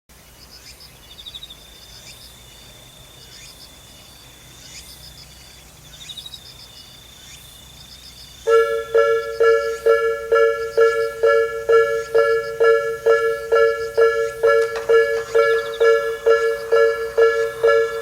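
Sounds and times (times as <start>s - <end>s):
insects chirping: 0.1s - 18.0s
loud rattling insect trill: 0.2s - 18.0s
faint low hum: 0.5s - 18.0s.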